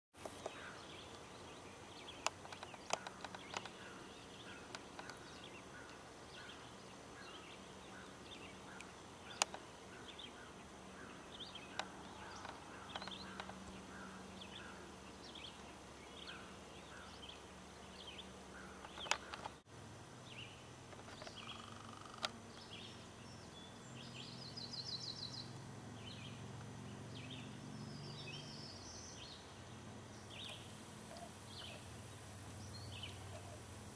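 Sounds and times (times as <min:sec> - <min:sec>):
songbirds chirping and singing: 0:00.4 - 0:19.6, 0:20.3 - 0:33.7.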